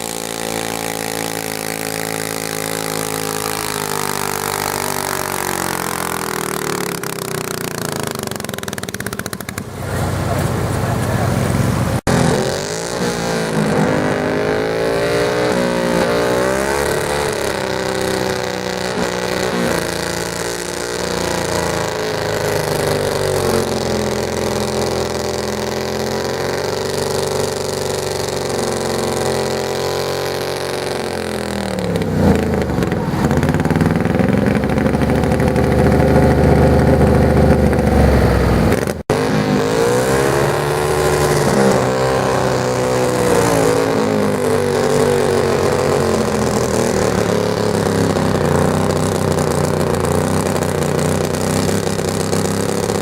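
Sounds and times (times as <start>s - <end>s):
garden tractor engine revving: 0.0s - 53.0s.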